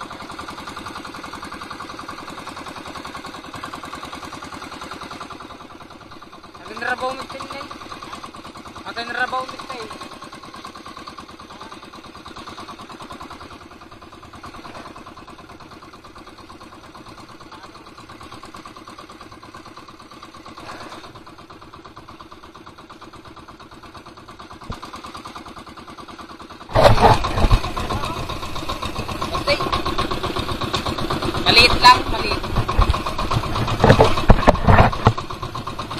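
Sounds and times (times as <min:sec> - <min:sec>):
boat engine running: 0:00.0 - 0:35.9.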